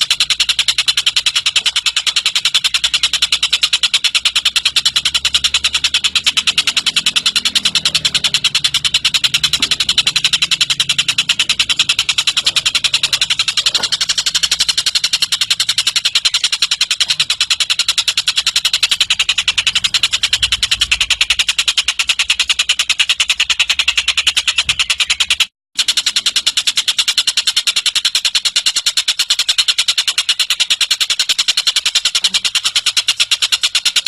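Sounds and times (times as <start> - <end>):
songbird rapid high calls: 0.0 - 25.5, 28.4 - 33.8.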